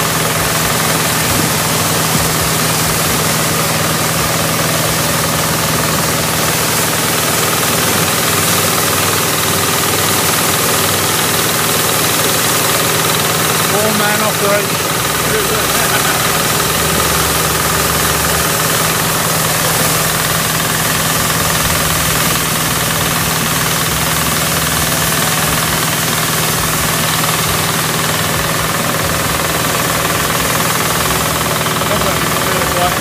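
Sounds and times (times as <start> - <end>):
threshing machine mechanical noise: 0.0 - 33.0
tractor engine running under load: 0.0 - 33.0.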